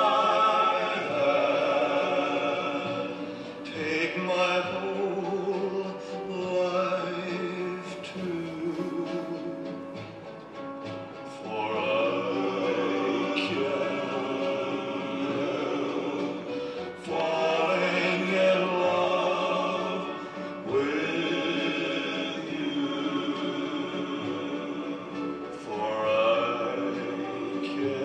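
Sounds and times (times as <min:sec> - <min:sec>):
choir singing long held notes: 0:00.0 - 0:28.0.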